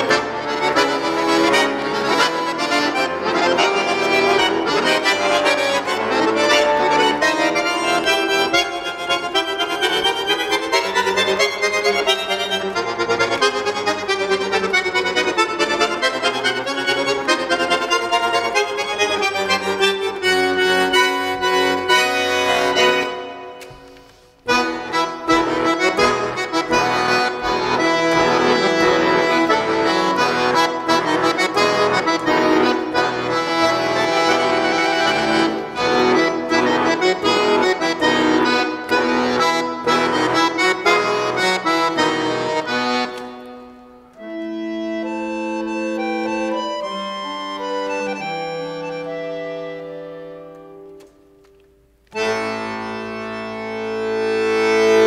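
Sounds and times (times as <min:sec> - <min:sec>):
button accordion playing: 0:00.0 - 0:51.2, 0:51.9 - 0:55.0.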